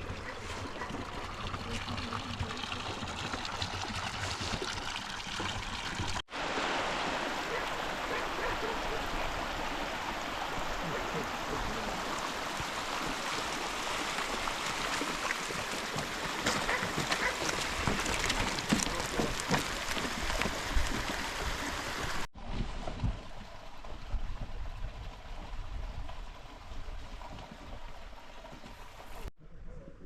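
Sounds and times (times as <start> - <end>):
mountain stream flowing: 0.0 - 29.3.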